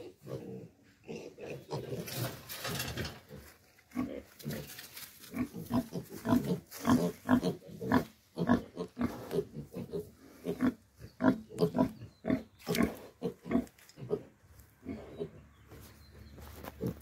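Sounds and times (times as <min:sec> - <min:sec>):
pigs grunting: 0:00.0 - 0:15.5.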